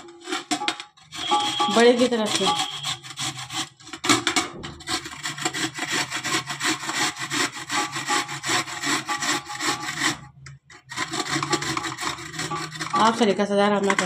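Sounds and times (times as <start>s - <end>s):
carrots grated on metal grater: 0.0s - 14.0s.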